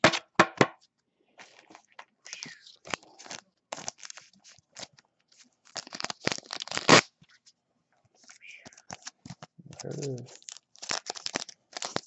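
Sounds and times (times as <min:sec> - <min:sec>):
plastic sleeve crinkling: 0:01.4 - 0:07.5, 0:08.2 - 0:12.0.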